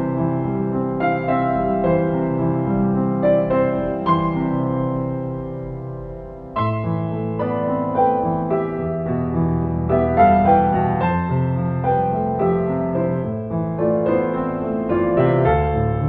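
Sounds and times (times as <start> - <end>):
solo piano ballad: 0.0 - 16.0.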